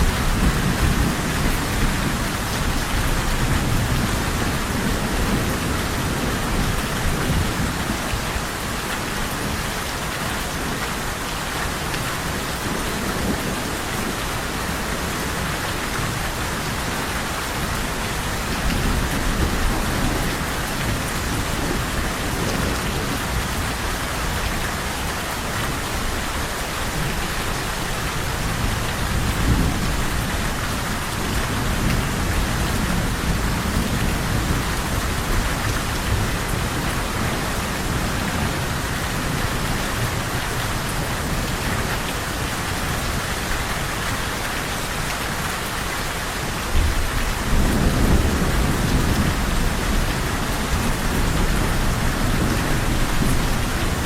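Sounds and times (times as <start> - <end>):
steady rain falling: 0.0 - 54.0
thunder rumbling: 0.0 - 54.0.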